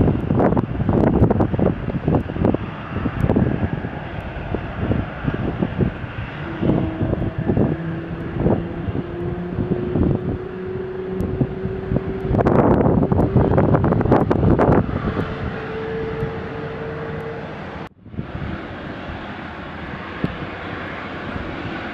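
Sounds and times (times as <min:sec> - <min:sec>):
distant airliner engines: 0:00.0 - 0:21.9
steady engine tone: 0:00.0 - 0:21.9
wind buffeting microphone: 0:00.0 - 0:21.9.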